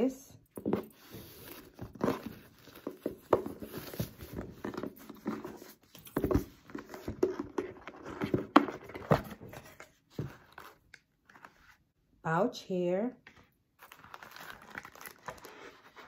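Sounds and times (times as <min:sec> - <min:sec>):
cardboard box rustling: 0:00.6 - 0:11.8, 0:13.8 - 0:16.0.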